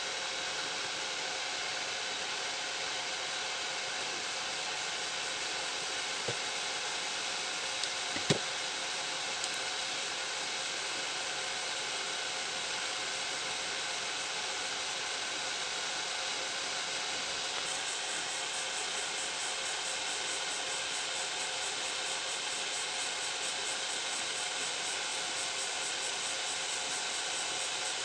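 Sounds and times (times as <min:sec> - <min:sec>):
steady fan-like hiss: 0:00.0 - 0:28.0.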